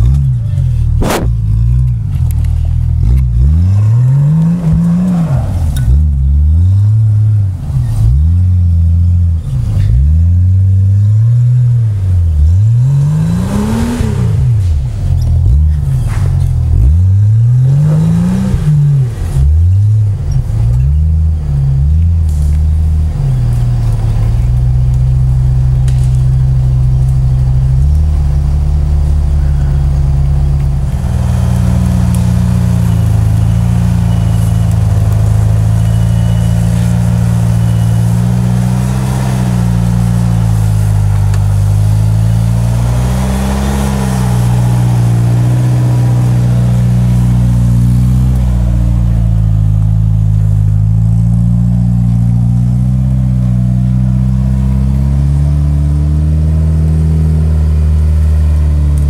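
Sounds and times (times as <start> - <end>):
off-road truck engines: 0.0 - 59.0.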